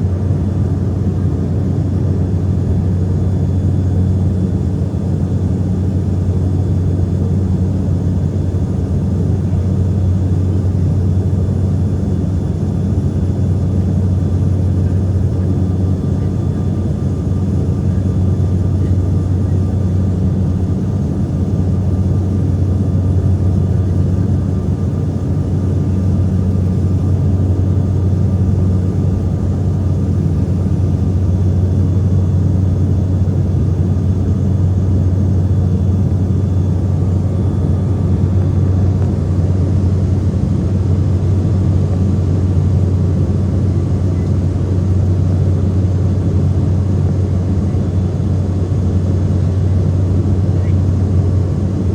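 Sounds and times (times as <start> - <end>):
propeller drone and engine rumble: 0.0 - 51.9.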